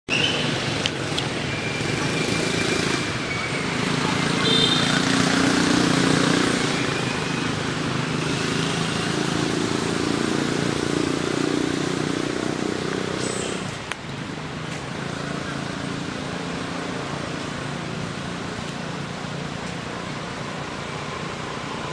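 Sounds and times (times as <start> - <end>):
low traffic rumble: 0.1 - 21.9.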